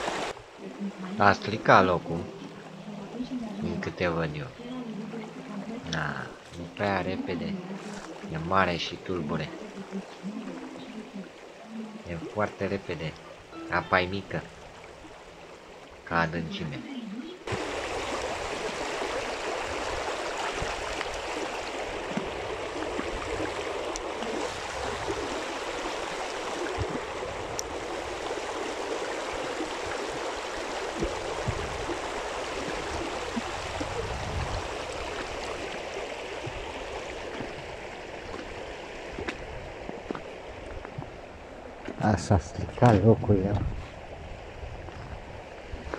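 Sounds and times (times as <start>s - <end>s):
river current rushing: 0.0s - 42.0s.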